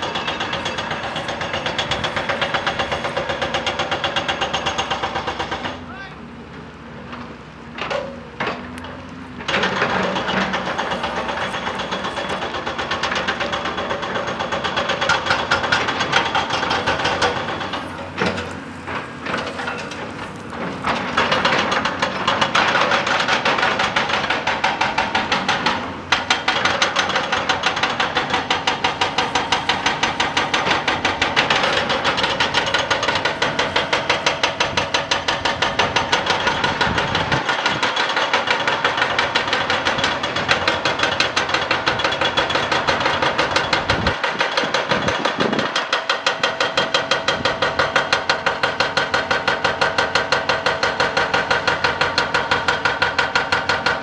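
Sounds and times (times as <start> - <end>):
hydraulic rock breaker hammering rock: 0.0 - 5.9, 6.5 - 54.0.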